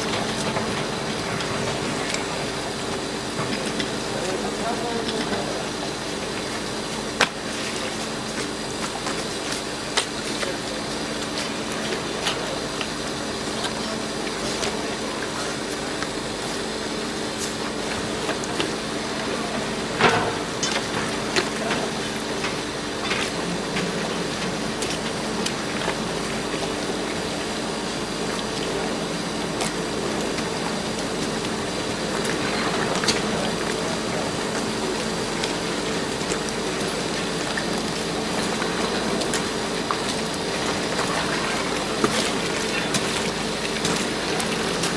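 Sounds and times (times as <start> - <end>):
low machine hum: 0.0 - 44.9.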